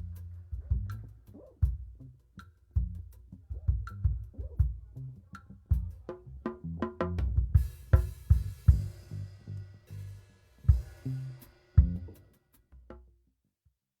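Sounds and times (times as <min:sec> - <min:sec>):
drum kit playing: 0:00.0 - 0:05.1, 0:05.7 - 0:12.6
bass guitar: 0:00.0 - 0:12.2.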